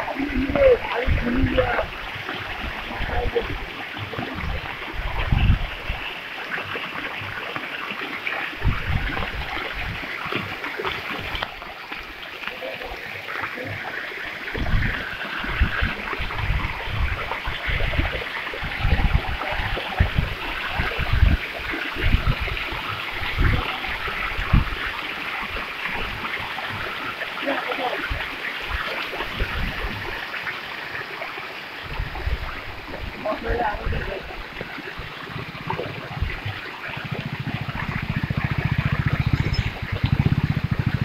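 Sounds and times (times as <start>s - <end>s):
floodwater rushing: 0.0s - 41.0s.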